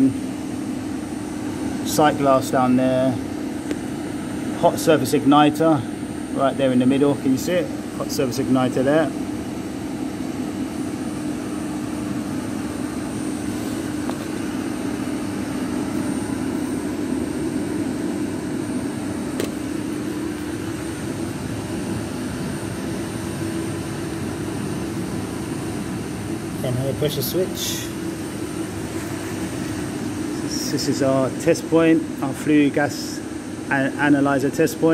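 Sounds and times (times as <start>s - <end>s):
gas boiler humming: 0.0s - 34.9s.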